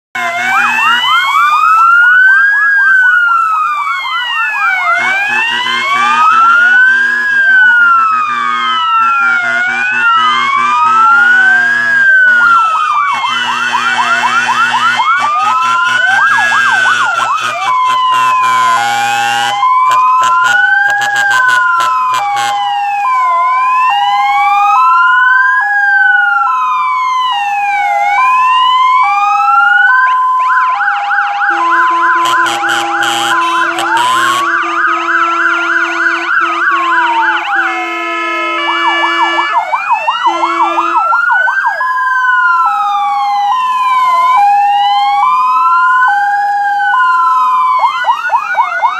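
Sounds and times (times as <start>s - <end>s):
fast yelping sirens: 0.2s - 48.9s
two-tone high-low siren: 0.2s - 48.9s
wailing sirens: 0.2s - 48.9s.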